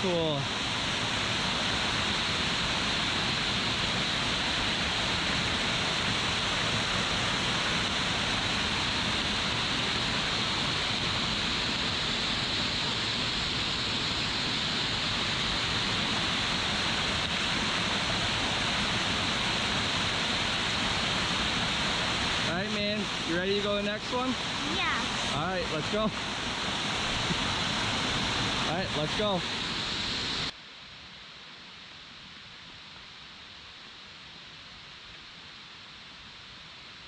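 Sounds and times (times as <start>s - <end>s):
waterfall roaring: 0.0s - 30.5s.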